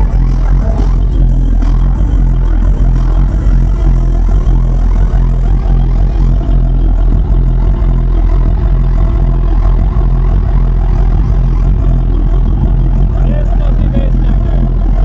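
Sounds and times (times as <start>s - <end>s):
dubstep music with heavy bass: 0.0s - 15.0s.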